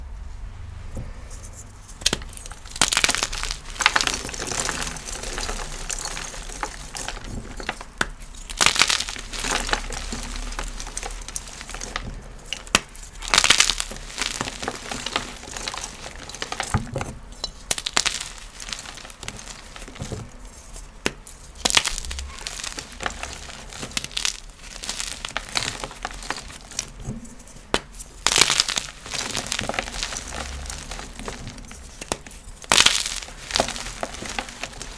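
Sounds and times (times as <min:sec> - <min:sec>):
chalk blocks crunching: 0:01.2 - 0:34.9.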